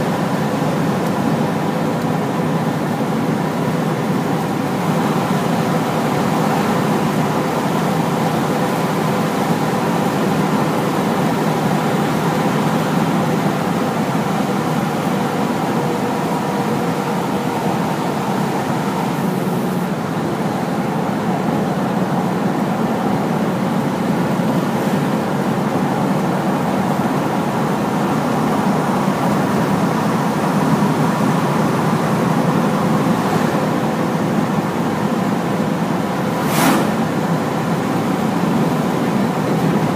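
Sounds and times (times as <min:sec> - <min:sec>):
truck diesel engine driving: 0:00.0 - 0:39.9.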